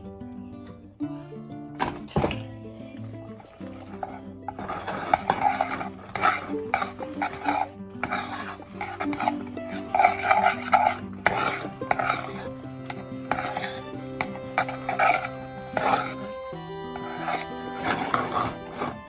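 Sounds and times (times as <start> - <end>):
background music with held notes: 0.0 - 19.0
spoon scraping in a pot: 1.8 - 19.0.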